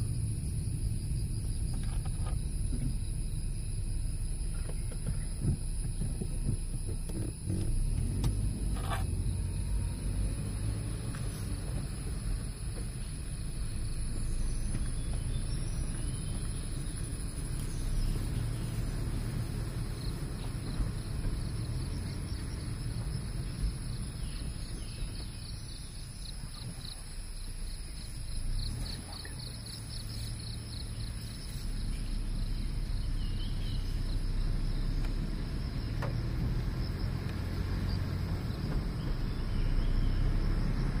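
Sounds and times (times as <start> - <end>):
high-pitched insect whine: 0.0 - 41.0
insects chirping: 0.0 - 41.0
low rumble: 0.0 - 41.0.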